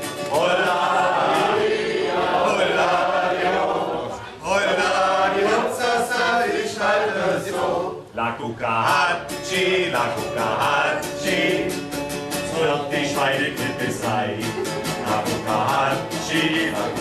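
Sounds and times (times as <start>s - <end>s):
people singing: 0.0s - 17.0s
strummed acoustic guitar: 0.0s - 17.0s.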